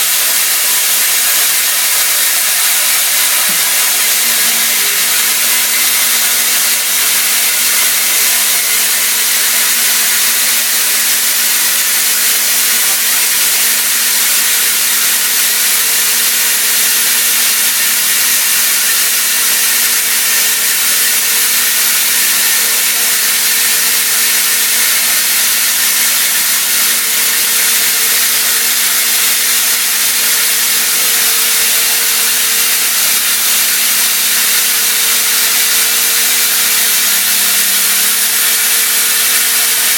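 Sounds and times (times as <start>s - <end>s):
hiss of coolant spray and cutting: 0.0s - 39.9s.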